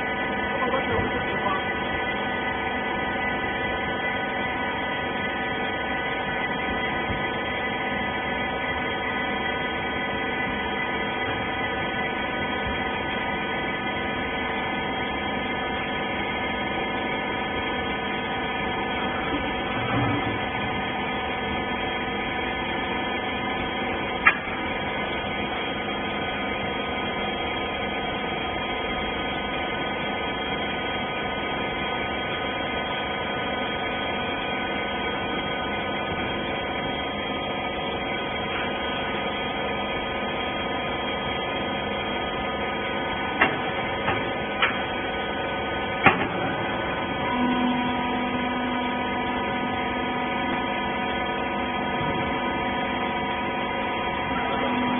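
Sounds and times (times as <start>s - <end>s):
baler mechanical hum: 0.0s - 54.9s.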